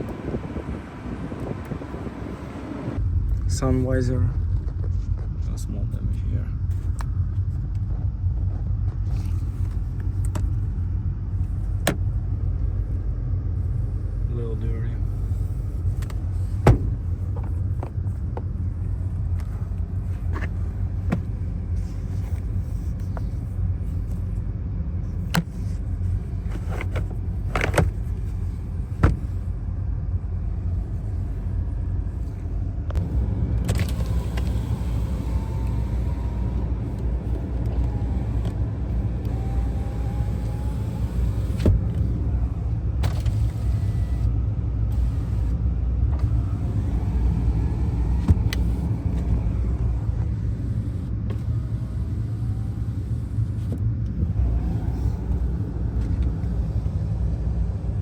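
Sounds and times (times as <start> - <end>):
faint whine: 0.0 - 58.0
steady low rumble: 0.0 - 58.0
car interior parts clicking: 4.5 - 12.2, 14.3 - 24.4, 25.1 - 29.6, 32.1 - 44.3, 44.9 - 57.8.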